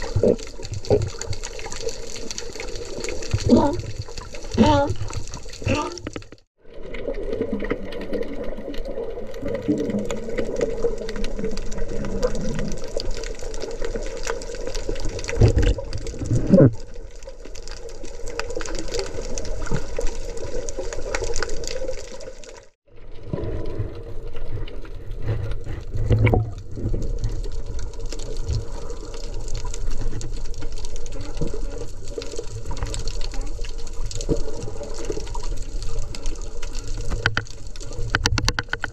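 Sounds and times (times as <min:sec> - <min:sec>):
muffled underwater wash and bubbling: 0:00.0 - 0:38.9.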